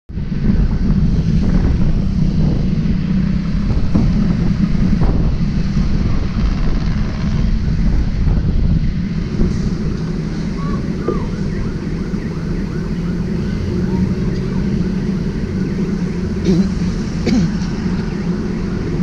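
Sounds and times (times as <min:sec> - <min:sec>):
street traffic noise: 0:00.1 - 0:19.0
wind buffeting microphone: 0:00.1 - 0:19.0.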